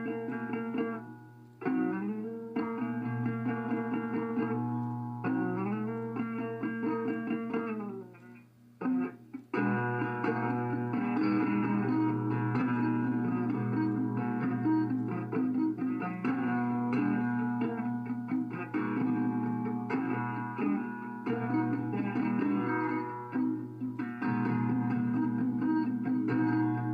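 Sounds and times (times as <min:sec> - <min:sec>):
guitar solo with bending notes: 0:00.0 - 0:26.9.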